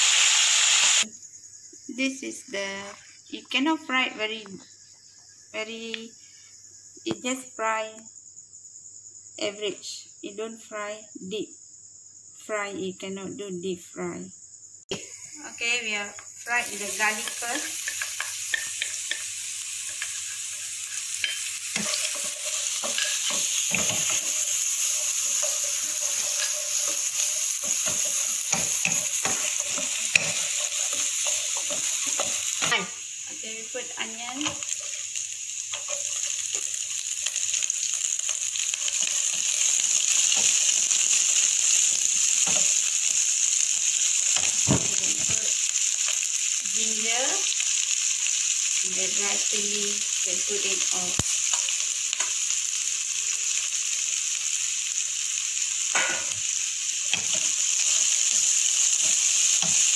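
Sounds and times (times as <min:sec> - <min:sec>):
garlic and onion sizzling in oil: 0:00.0 - 0:03.2, 0:14.9 - 0:59.9.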